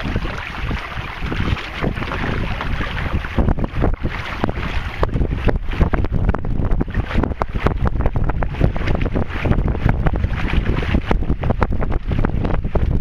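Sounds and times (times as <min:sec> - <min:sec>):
water washing along hull: 0:00.0 - 0:13.0
wind buffeting microphone: 0:00.0 - 0:13.0.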